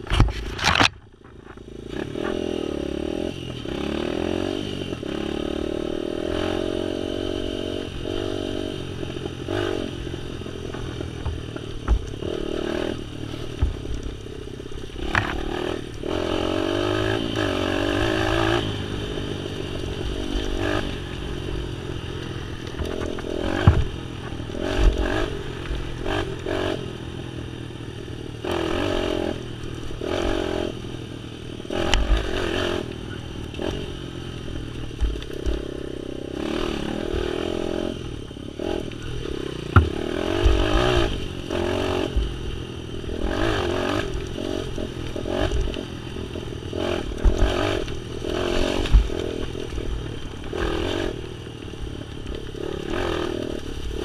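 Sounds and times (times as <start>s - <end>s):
off-road vehicle engine revving: 1.5s - 54.0s.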